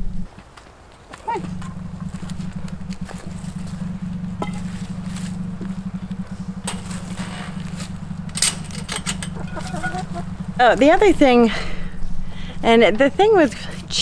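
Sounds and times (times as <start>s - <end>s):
low engine drone: 1.4s - 14.0s.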